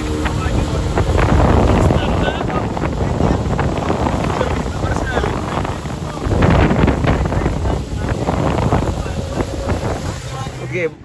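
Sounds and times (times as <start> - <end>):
rush of boat wake: 0.0 - 11.0
wind buffeting microphone: 0.0 - 11.0.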